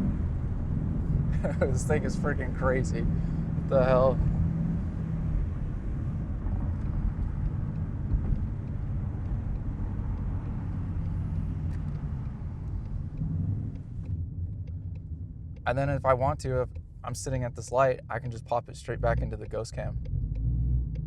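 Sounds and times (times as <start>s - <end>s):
car engine running: 0.0s - 21.0s
exhaust crackles: 0.0s - 21.0s.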